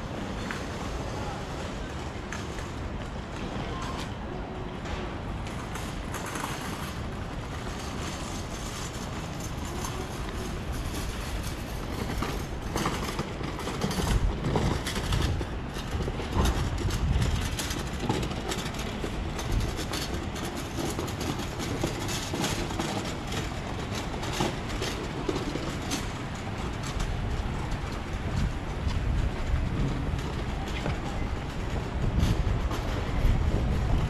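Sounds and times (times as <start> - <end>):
low rumble of traffic: 0.0 - 34.0.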